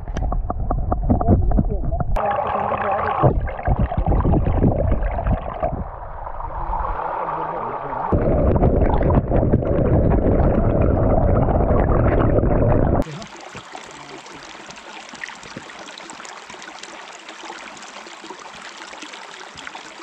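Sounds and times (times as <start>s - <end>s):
muffled underwater river gurgling: 0.0s - 20.0s.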